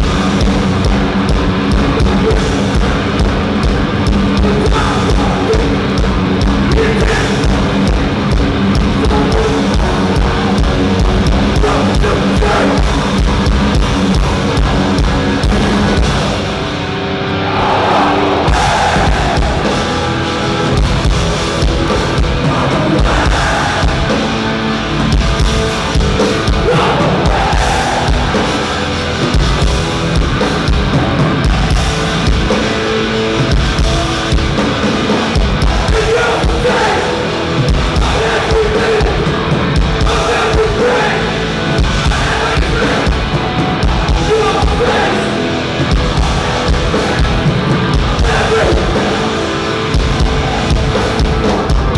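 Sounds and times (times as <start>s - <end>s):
crowd noise: 0.0s - 51.9s
punk band playing: 0.0s - 51.9s
yelled vocals: 0.0s - 51.9s.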